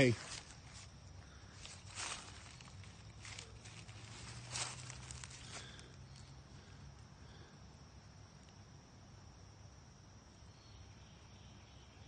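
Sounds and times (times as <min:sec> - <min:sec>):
cricket trill: 0:00.0 - 0:12.0.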